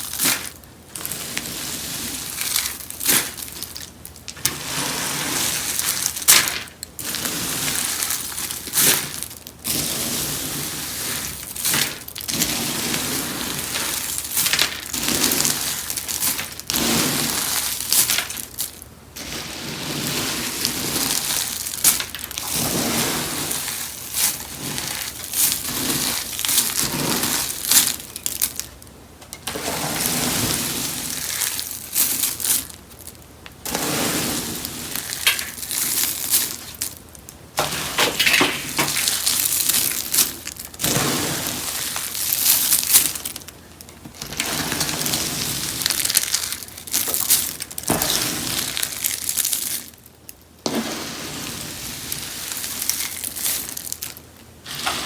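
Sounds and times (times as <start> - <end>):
soap being crushed crunching: 0.0 - 50.6, 51.7 - 54.9.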